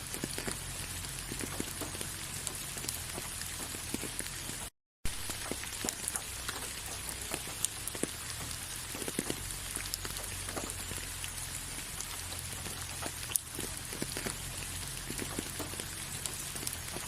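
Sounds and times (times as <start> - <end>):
raindrops tapping: 0.0 - 17.0
steady rainfall hiss: 0.0 - 17.0.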